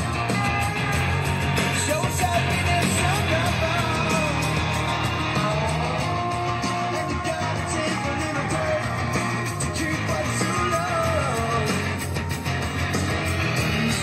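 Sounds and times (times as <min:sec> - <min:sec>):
rock song over speakers: 0:00.0 - 0:14.0.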